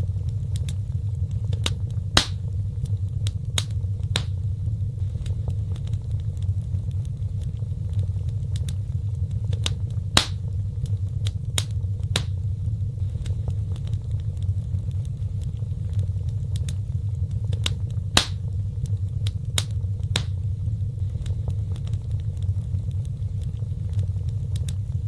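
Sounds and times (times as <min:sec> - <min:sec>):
low rumble of burning fire: 0:00.0 - 0:25.0
wood fire crackling: 0:00.0 - 0:25.0.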